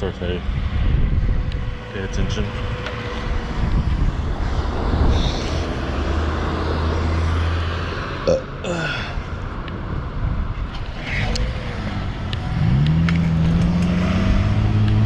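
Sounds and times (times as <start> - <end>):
rumbling road noise: 0.0 - 15.0
vehicle engine droning: 0.0 - 15.0.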